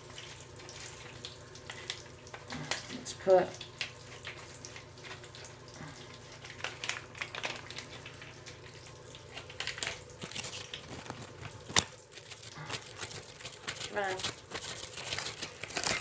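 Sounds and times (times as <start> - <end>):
bathwater sloshing and splashing: 0.0 - 16.0.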